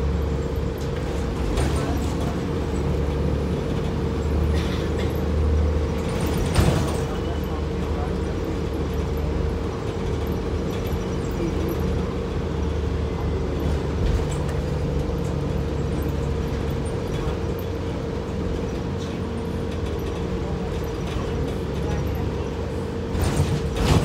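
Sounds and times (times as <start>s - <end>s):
bus engine and road noise: 0.0s - 24.0s.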